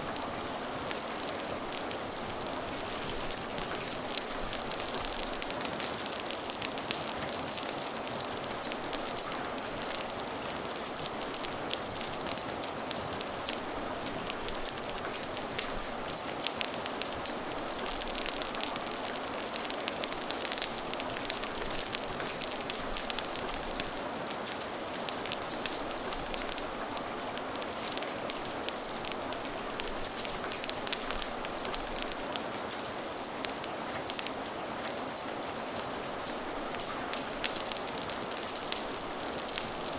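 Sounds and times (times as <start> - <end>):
fire crackling: 0.0 - 39.9
steady rain: 0.0 - 39.9.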